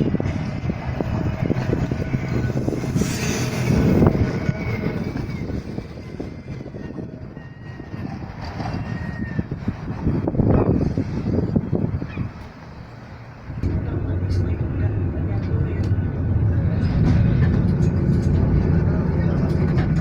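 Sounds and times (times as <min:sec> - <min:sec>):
tram rumbling with high whine: 0:00.0 - 0:20.0.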